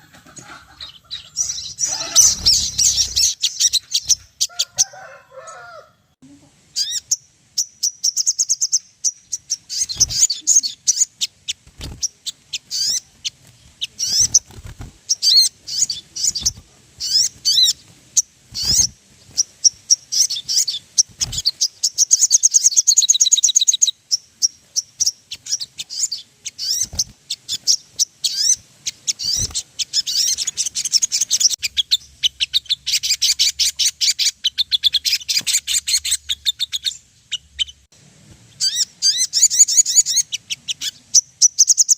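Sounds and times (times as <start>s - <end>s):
birds chirping and trilling: 0.0s - 5.9s, 6.7s - 41.9s.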